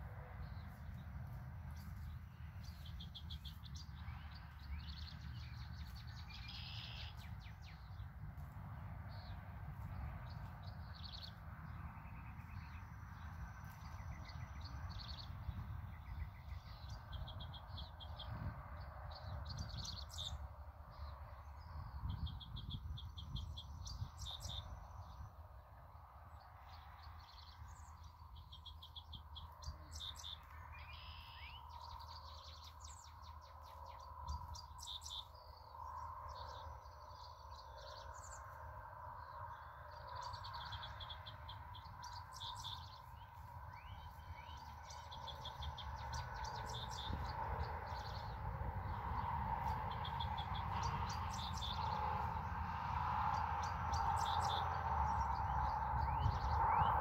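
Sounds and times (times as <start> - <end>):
low rumble: 0.0 - 57.0
songbirds singing: 0.0 - 57.0.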